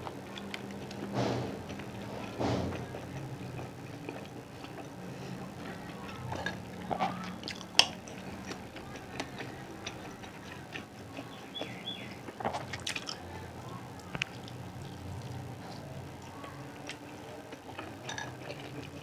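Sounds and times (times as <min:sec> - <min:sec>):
chewing and biting: 0:00.0 - 0:19.0.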